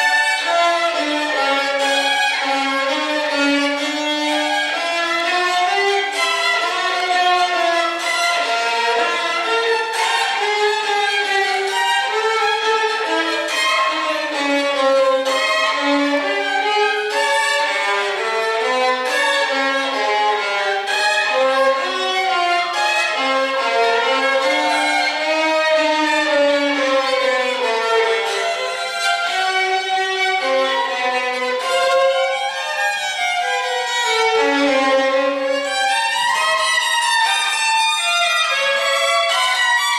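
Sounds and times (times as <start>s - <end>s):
bowed violin melody: 0.0s - 39.9s
strings accompaniment: 0.0s - 39.9s.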